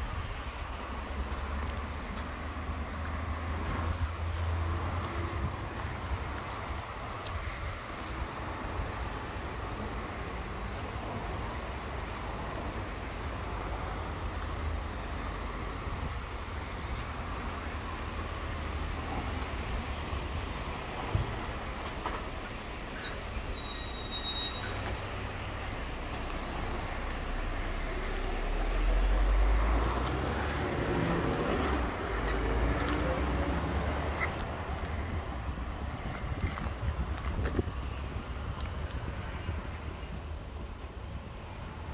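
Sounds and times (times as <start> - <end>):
low vehicle rumble: 0.0 - 41.8.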